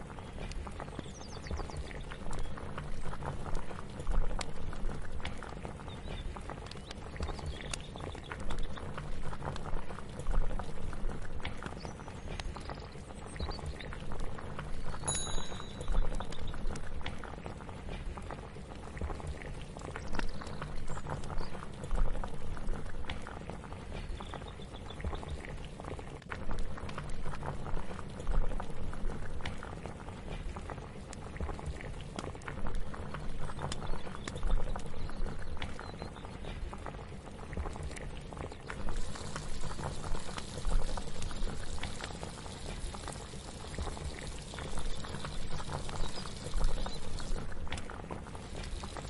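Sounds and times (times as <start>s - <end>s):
crackle of small pops: 0.0s - 49.0s
pot of liquid bubbling: 0.0s - 49.0s.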